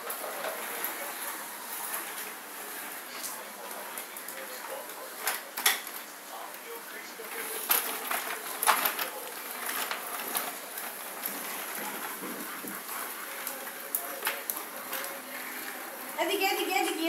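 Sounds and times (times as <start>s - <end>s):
baby walker rolling on tiled floor: 0.0s - 17.0s
steady rustle: 0.0s - 17.0s.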